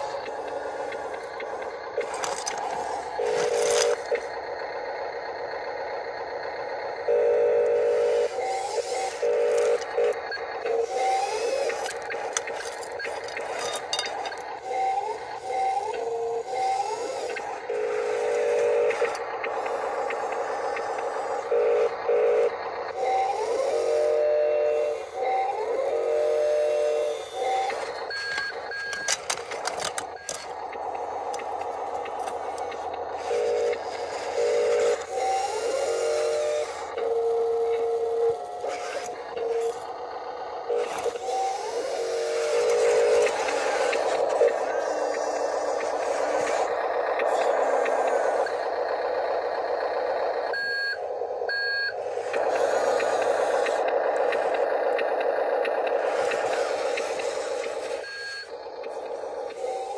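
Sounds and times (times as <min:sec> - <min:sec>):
small electric motors whining: 0:00.0 - 0:59.9.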